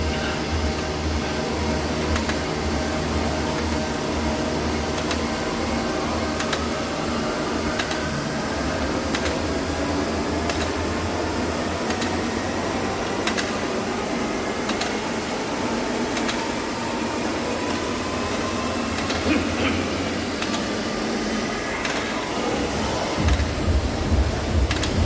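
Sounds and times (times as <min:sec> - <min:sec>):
steady mechanical whirring: 0:00.0 - 0:25.0.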